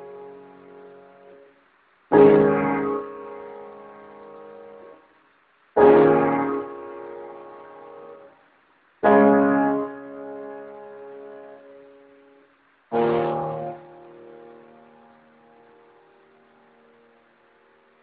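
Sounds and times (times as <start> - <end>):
piano chords played slowly: 0.0 - 5.1, 5.8 - 8.4, 9.0 - 18.0.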